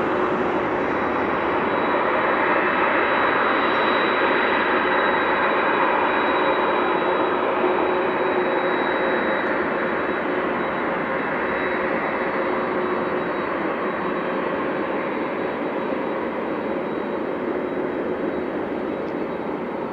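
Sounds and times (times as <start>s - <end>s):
jet engines at takeoff power: 0.0s - 19.9s.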